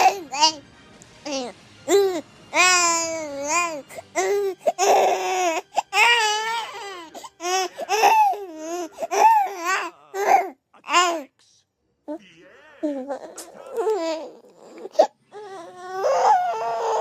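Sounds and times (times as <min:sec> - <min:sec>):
baby crying and squealing: 0:00.0 - 0:00.6, 0:01.3 - 0:11.2, 0:12.8 - 0:17.0.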